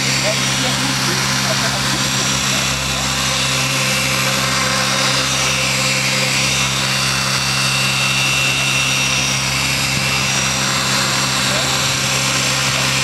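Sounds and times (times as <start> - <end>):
rc helicopter hovering: 0.0 - 13.0.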